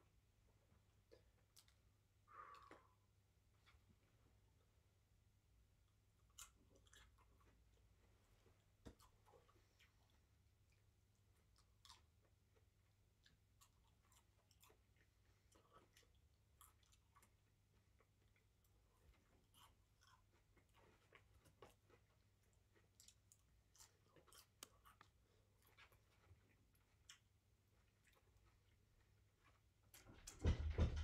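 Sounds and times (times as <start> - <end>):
person chewing food: 0.6 - 4.8, 5.7 - 30.0.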